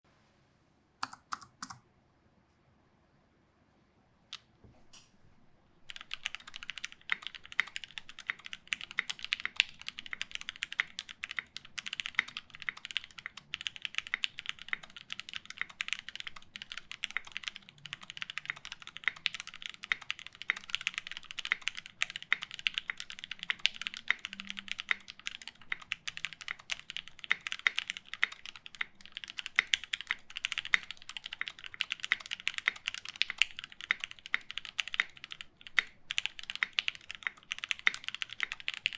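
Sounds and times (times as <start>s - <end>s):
fast mechanical keyboard typing: 1.0s - 1.8s, 5.8s - 38.9s.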